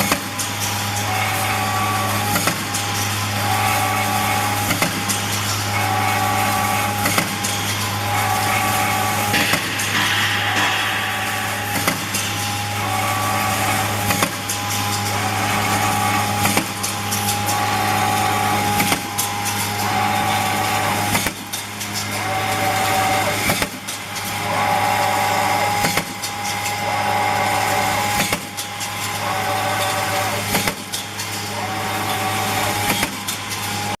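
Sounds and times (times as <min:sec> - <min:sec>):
machine whine: 0:00.0 - 0:34.0
sharp machine clack: 0:00.0 - 0:34.0.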